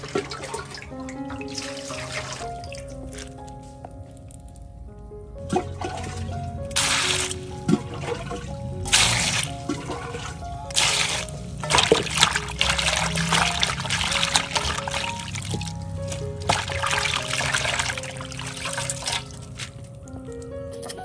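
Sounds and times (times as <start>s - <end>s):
water pouring into metal basin: 0.0s - 3.3s, 5.5s - 19.9s
background music: 0.0s - 21.0s.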